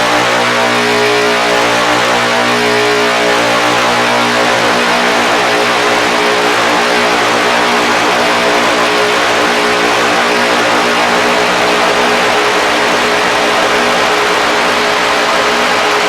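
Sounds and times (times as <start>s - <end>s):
loud static hiss: 0.0s - 16.0s
steady low drone tones: 0.0s - 16.0s.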